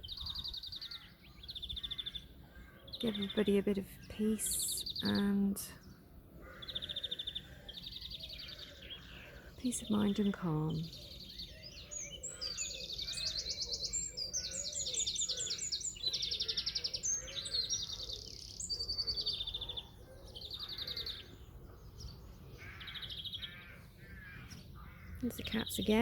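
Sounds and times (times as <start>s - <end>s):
high trilled birdsong: 0.0s - 26.0s.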